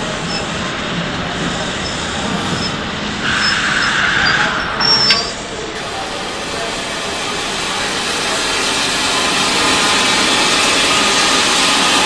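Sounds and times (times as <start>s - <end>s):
model steam engine hissing: 0.0s - 12.0s.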